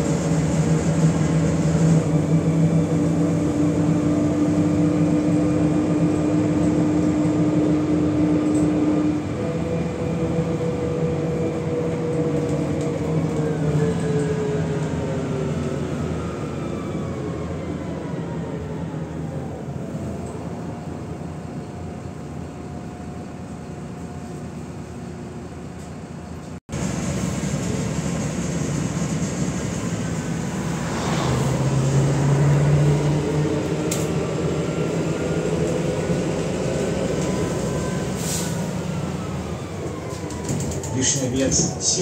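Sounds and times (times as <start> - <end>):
bus engine running: 0.0 - 42.0
road and tyre noise: 0.0 - 42.0.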